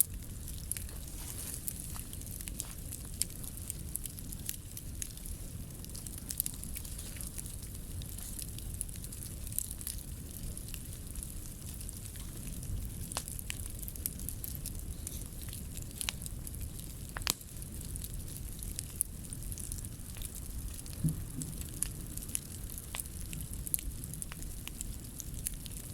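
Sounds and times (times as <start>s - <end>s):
bonfire crackling and popping: 0.0s - 25.9s
low fire rumble: 0.0s - 25.9s.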